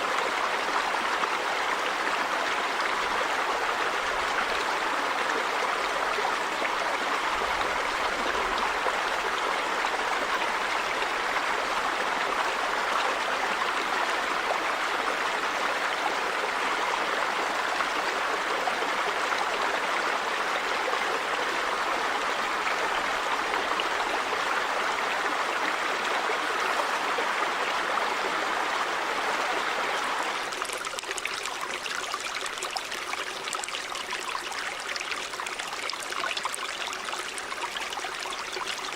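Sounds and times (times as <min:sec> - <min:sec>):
river water running over rocks: 0:00.0 - 0:38.9.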